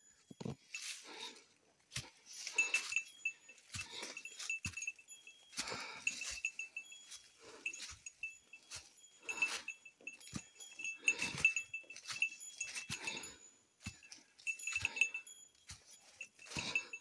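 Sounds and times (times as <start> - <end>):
footsteps on trail: 0.0 - 17.0
person breathing hard: 0.7 - 17.0.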